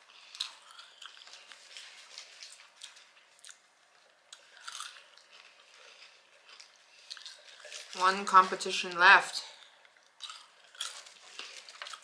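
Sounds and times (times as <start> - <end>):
person chewing food: 0.0 - 8.0, 9.5 - 12.0.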